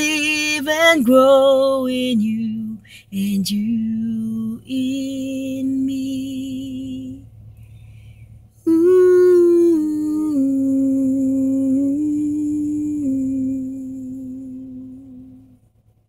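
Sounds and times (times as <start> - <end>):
woman humming a hymn melody: 0.0 - 7.2, 8.6 - 15.6.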